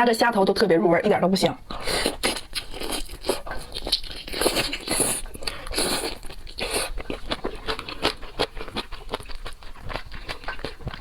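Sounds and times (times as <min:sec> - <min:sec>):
wet chewing: 0:01.7 - 0:11.0
crunching shrimp shells: 0:01.8 - 0:11.0.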